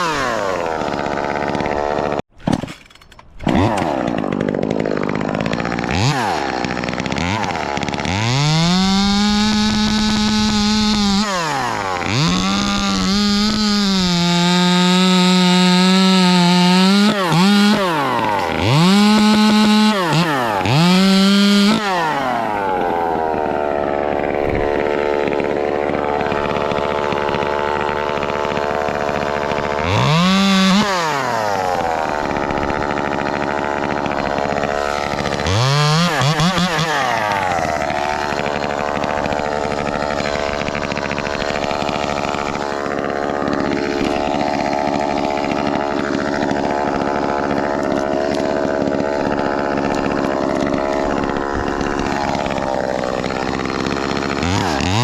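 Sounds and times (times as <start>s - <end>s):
chainsaw revving and idling: 0.0s - 2.6s, 3.3s - 55.0s.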